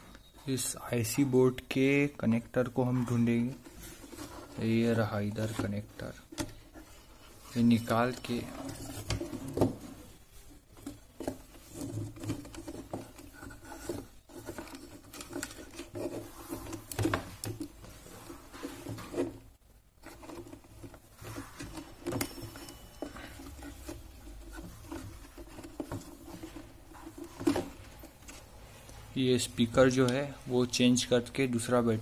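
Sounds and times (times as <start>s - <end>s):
hands rustling wires and plastic: 0.1s - 32.0s.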